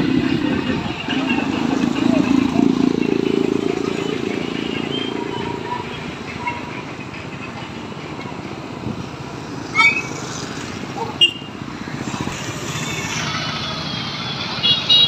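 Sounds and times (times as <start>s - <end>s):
motorcycle and scooter traffic: 0.0s - 15.0s.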